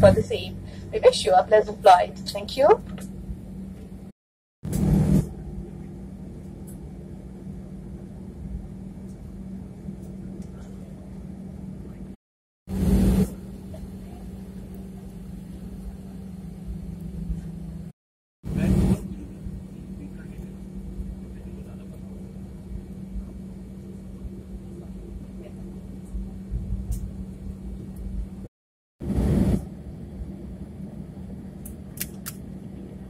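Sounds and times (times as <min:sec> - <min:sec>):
airliner engines hum in cabin: 0:00.0 - 0:33.0.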